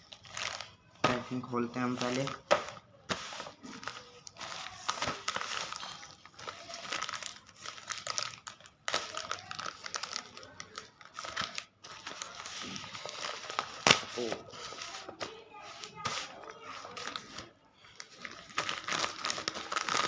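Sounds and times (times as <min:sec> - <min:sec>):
packaging crinkling and rustling: 0:00.0 - 0:20.0.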